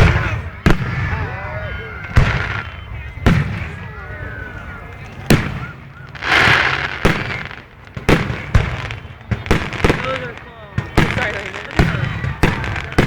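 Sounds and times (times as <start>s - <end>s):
fireworks booming: 0.0s - 1.4s, 2.0s - 4.5s, 5.1s - 13.0s.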